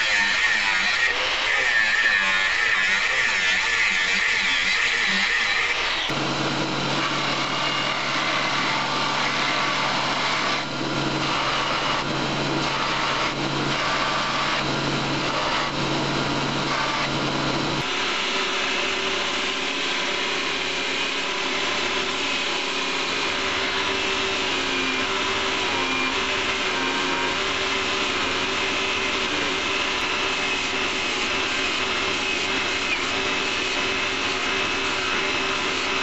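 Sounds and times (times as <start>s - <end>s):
belt grinder grinding blade: 0.0s - 36.0s
grinder motor hum: 0.0s - 36.0s.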